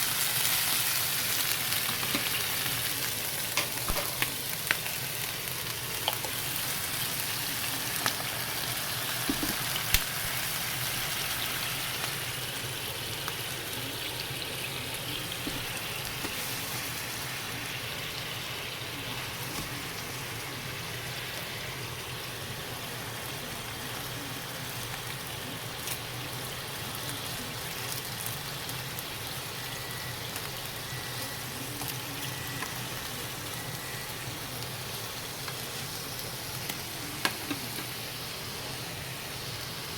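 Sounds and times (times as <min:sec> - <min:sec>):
radish sizzling in frying pan: 0:00.0 - 0:39.9.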